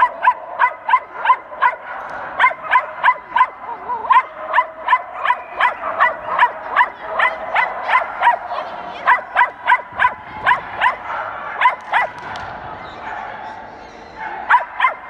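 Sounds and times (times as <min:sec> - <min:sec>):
dog barking rapidly: 0:00.0 - 0:12.2, 0:14.2 - 0:15.0.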